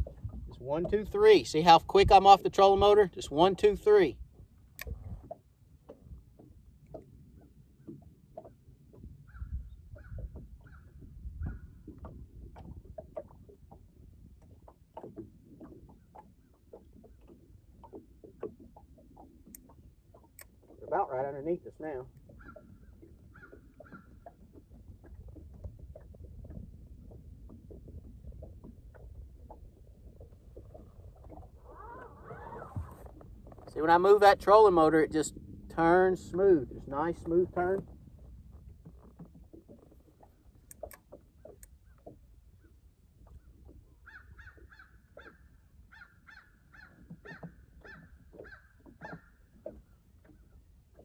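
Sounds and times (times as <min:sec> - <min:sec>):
wind rumble on microphone: 0:00.0 - 0:20.9, 0:21.5 - 0:45.4
waves lapping against boat hull: 0:00.0 - 0:51.0.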